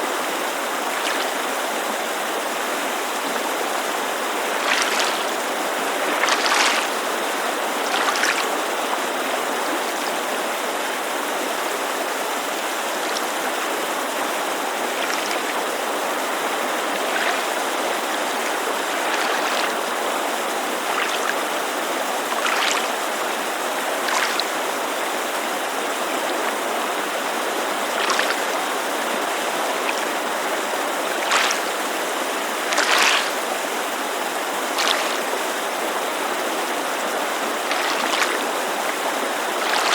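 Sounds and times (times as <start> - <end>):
creek rushing: 0.0 - 39.9
small waves lapping on shore: 0.0 - 39.9.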